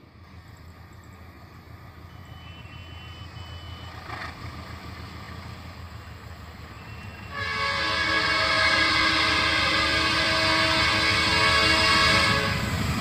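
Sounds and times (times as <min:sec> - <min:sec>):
distant train rumble: 0:00.0 - 0:13.0.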